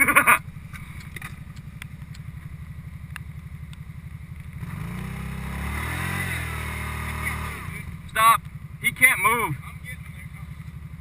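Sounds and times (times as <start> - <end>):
atv engine idling and revving: 0.0 - 11.0.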